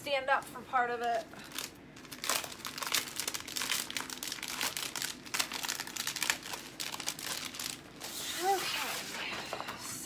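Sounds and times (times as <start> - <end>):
plastic sheet crinkling: 1.0 - 9.8.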